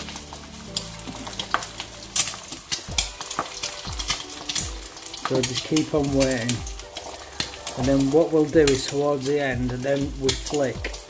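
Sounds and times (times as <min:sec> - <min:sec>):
egg sizzling in hot oil: 0:00.0 - 0:11.0.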